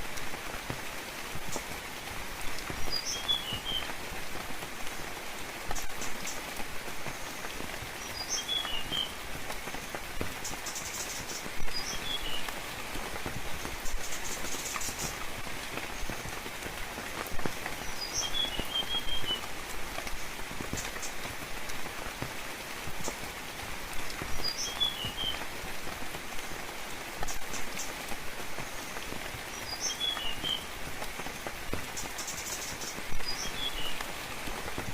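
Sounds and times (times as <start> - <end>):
rain falling on foliage: 0.0 - 34.9.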